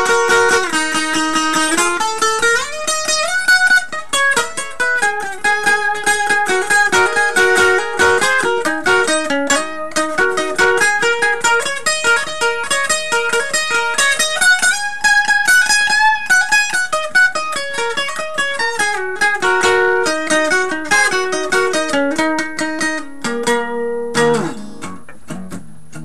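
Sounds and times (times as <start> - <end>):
twelve-string acoustic guitar blues: 0.0 - 26.0.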